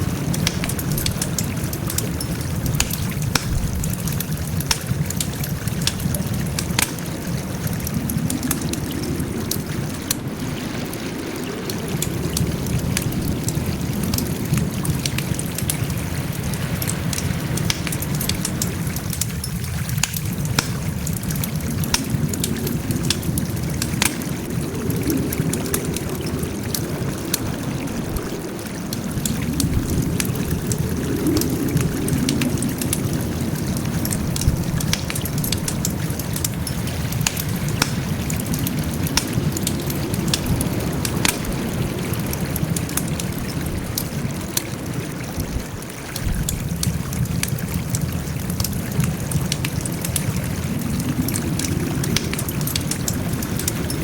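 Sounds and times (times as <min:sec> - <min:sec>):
low rush of flames: 0:00.0 - 0:54.0
wood fire crackling: 0:00.0 - 0:54.0.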